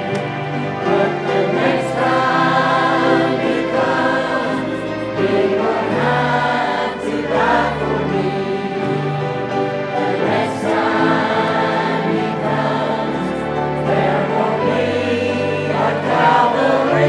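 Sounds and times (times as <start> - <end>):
choir singing gospel: 0.0 - 17.0.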